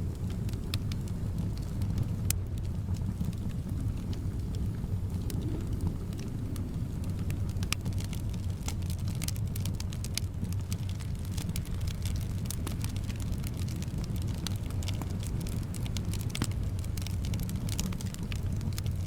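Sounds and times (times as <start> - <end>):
low rumble of wind: 0.0 - 19.0
wood fire crackling and popping: 0.0 - 19.0.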